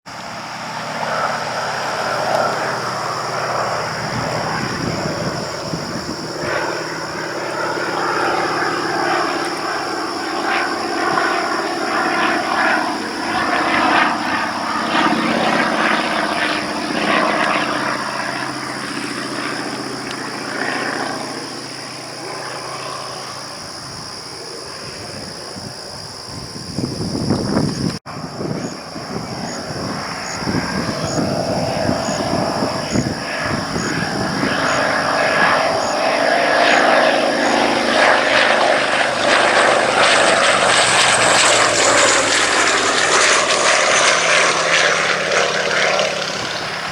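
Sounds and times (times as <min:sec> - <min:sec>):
biplane engine and propeller: 0:00.0 - 0:46.9.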